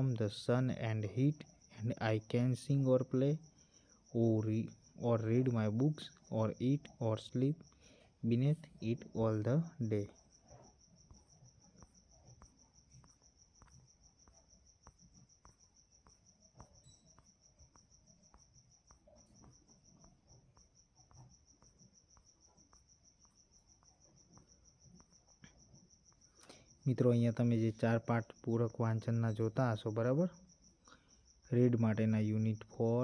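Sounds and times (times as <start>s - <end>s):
cricket trilling: 0.0s - 33.0s
faint ticks: 1.1s - 33.0s.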